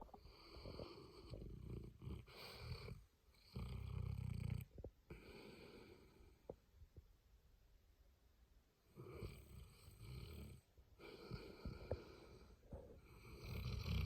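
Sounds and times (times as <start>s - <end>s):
dog snoring: 0.0s - 6.2s, 8.9s - 14.0s.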